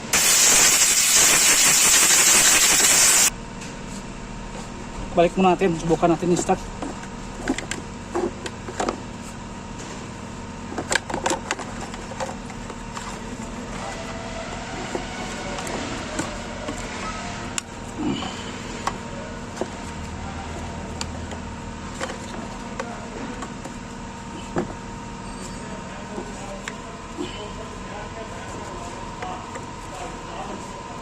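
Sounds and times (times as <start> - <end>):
steady background hum: 3.3 - 31.0.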